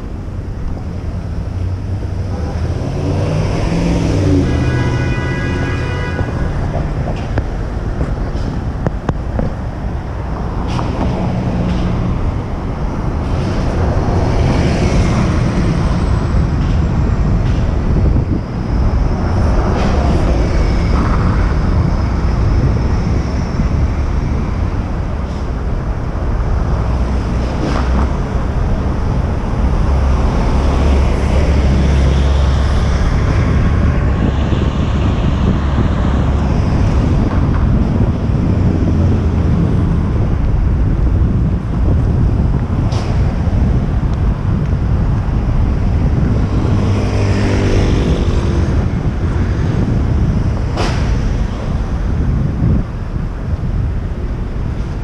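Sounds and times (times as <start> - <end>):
street traffic: 0.0 - 55.0
wind buffeting microphone: 0.0 - 55.0.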